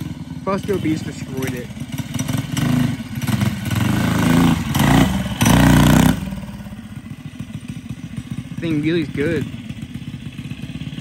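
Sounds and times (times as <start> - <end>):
mini bike engine revving: 0.0 - 11.0.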